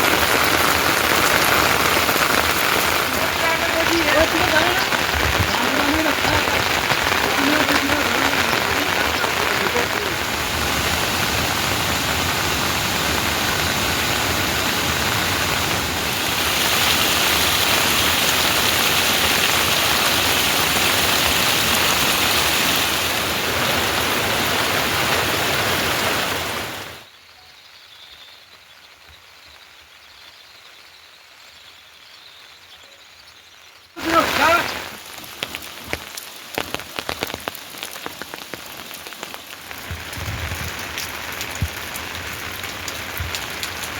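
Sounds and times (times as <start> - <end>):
heavy rain downpour: 0.0 - 27.4, 28.2 - 43.9.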